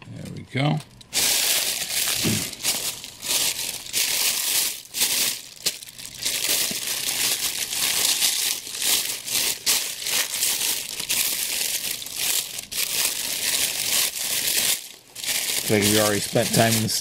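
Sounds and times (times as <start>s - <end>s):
plastic bag crinkling: 0.8s - 17.0s.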